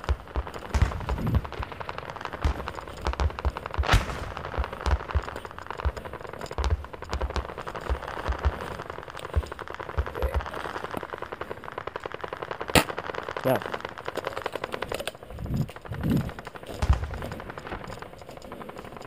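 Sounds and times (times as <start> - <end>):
airsoft gunfire crackling: 0.0 - 15.2, 15.8 - 19.0
sharp crack: 0.0 - 19.0.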